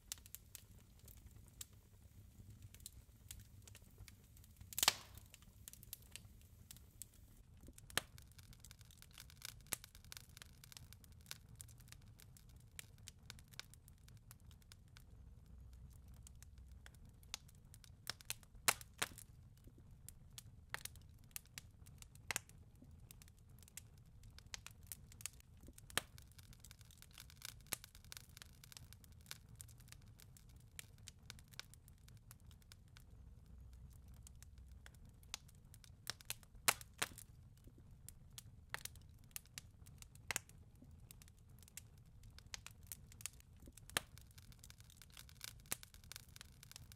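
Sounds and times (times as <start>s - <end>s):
fireplace crackling: 0.0s - 46.9s.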